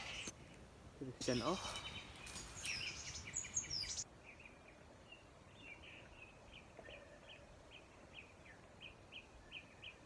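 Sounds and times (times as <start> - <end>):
quiet woodland background: 0.0 - 10.0
bird chirping: 1.2 - 10.0.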